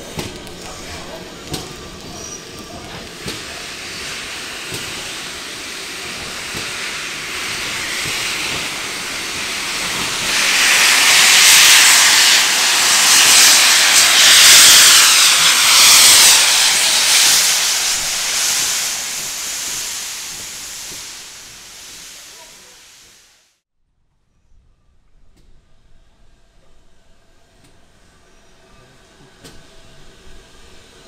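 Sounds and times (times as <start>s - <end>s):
steam hissing from locomotive: 0.0s - 23.6s, 26.2s - 31.0s.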